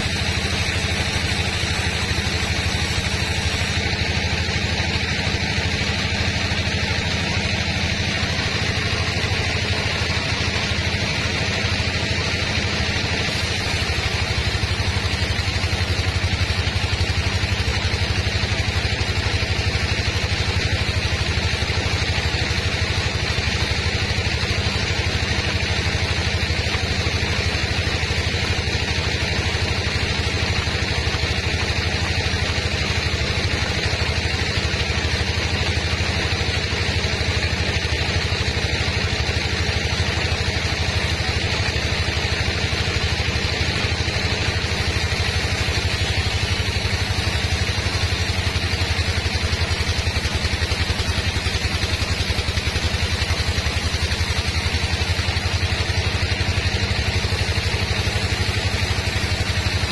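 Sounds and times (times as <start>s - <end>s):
hiss: 0.0s - 59.9s
sawmill engine humming: 0.0s - 59.9s.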